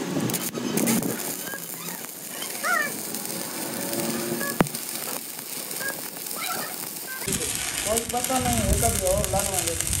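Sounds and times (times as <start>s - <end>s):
arc welding crackling sizzle: 0.0s - 10.0s.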